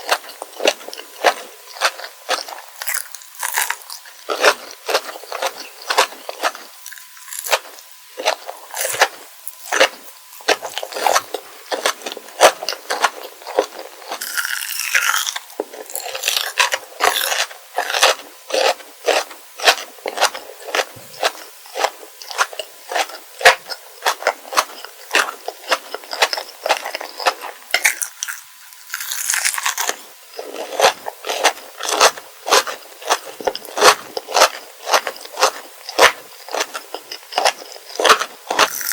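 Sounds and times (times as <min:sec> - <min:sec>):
chewing: 0:00.0 - 0:38.9
crisp candy crunching: 0:00.0 - 0:38.9.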